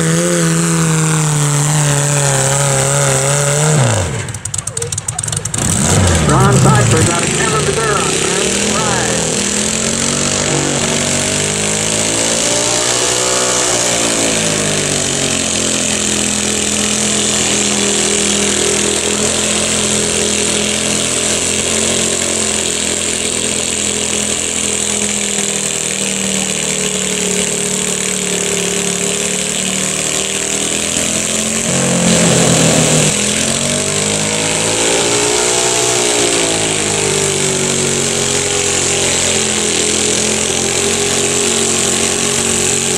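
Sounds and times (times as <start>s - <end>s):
small engine revving under load: 0.0s - 4.6s, 5.2s - 42.9s.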